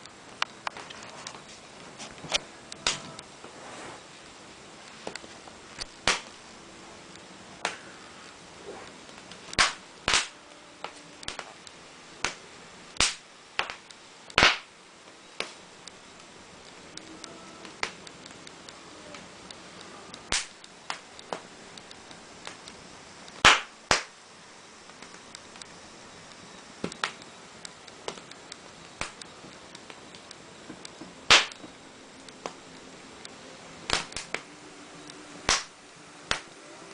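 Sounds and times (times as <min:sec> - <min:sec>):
faint steady hiss: 0:00.0 - 0:36.9
wood fire crackling and popping: 0:00.0 - 0:36.9.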